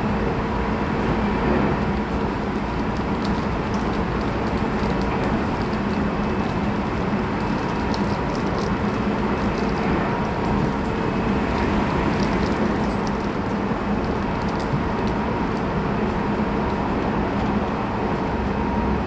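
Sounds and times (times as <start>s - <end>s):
constant low hum: 0.0s - 19.0s
train wheels rumbling on rail: 0.0s - 19.0s.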